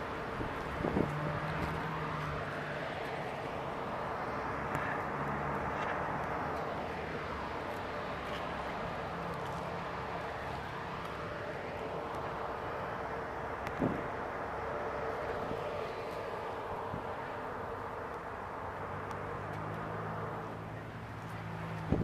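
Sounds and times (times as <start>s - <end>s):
distant engines passing: 0.0s - 22.0s.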